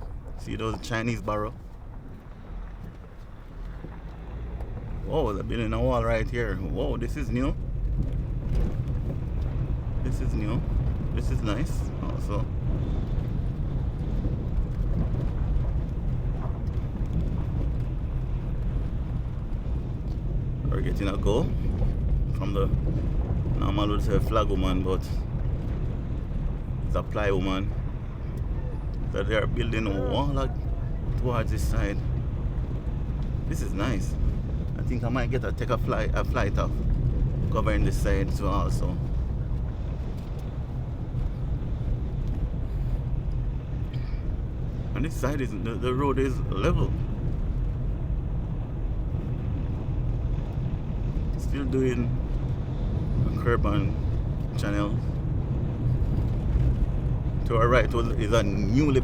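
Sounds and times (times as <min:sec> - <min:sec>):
car interior driving rumble: 0:00.0 - 0:59.0.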